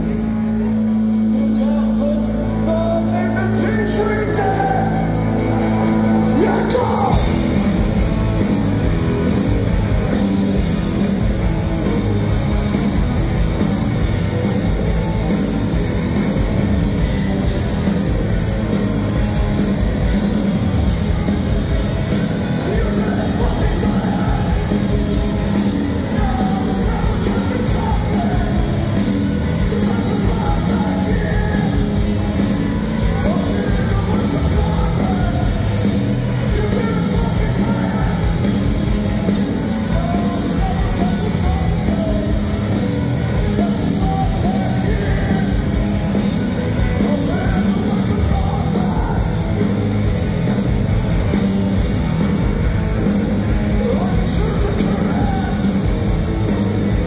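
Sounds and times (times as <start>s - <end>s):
loud live rock band: 0.0s - 57.0s
yelled vocals: 3.4s - 57.0s.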